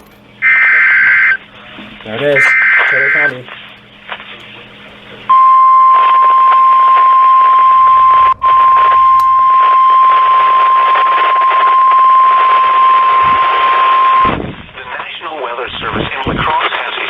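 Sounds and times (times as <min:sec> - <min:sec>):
radio static: 0:00.3 - 0:17.0
loud steady alarm tone: 0:00.4 - 0:14.6.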